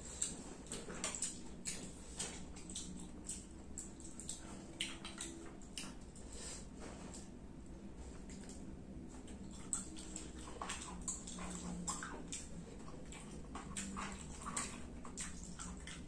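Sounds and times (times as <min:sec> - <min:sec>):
person chewing and lip smacking: 0:00.0 - 0:06.4, 0:08.1 - 0:16.0.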